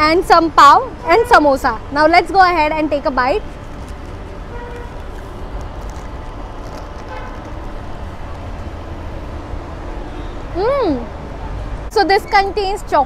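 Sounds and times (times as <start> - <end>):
passing vehicles rumbling: 0.0 - 13.0.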